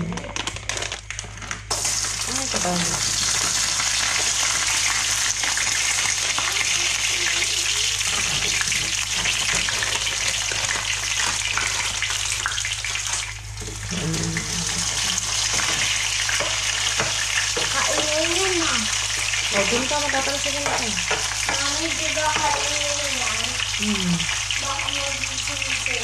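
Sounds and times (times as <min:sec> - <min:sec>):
low steady hum: 0:00.0 - 0:26.0
food sizzling in hot oil: 0:01.0 - 0:26.0.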